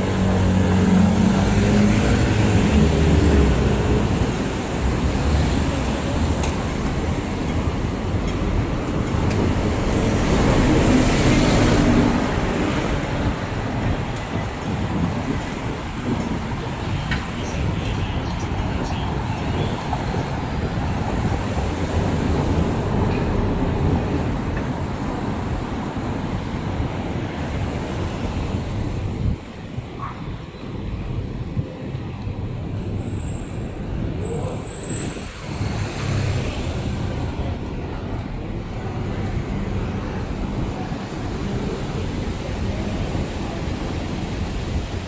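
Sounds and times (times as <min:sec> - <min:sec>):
traffic rumble: 0:00.0 - 0:45.0.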